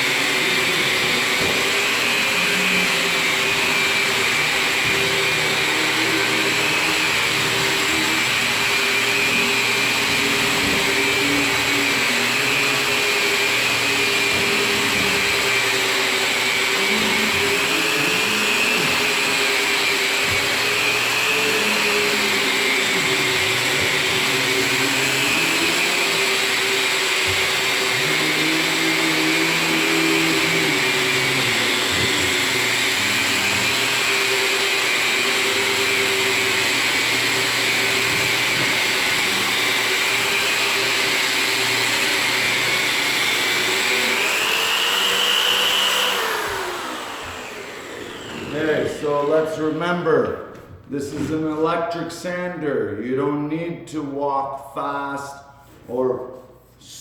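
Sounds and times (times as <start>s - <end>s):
electric sander humming and hissing: 0.0s - 49.3s.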